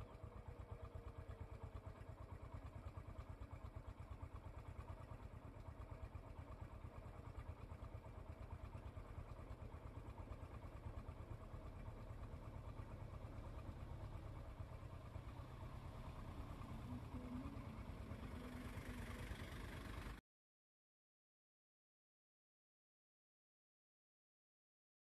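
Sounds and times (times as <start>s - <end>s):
engine idling: 0.0s - 20.2s.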